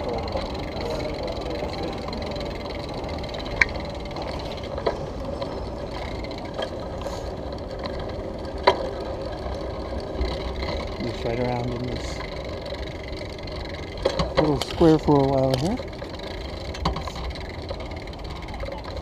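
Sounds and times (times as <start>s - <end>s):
bicycle tyres rumbling on stone: 0.0s - 19.0s.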